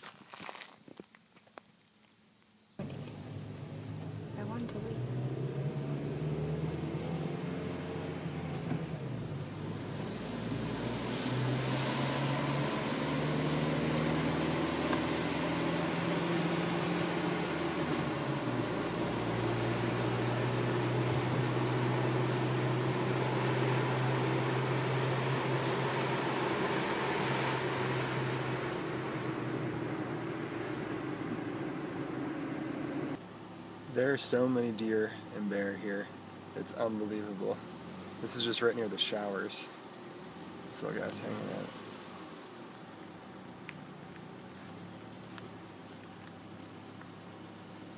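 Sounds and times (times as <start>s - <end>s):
car engine hum: 2.8s - 47.9s
road roar: 2.8s - 47.9s.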